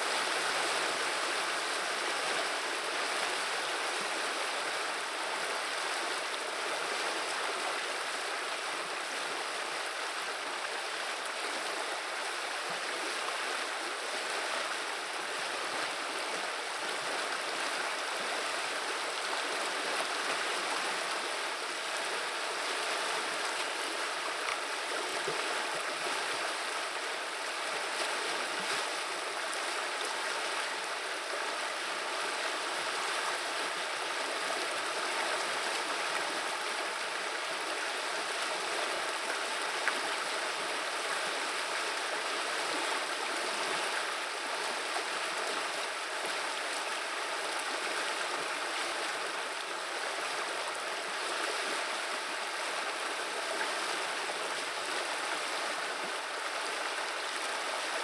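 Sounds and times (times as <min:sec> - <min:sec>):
river water over stones: 0:00.0 - 0:58.0.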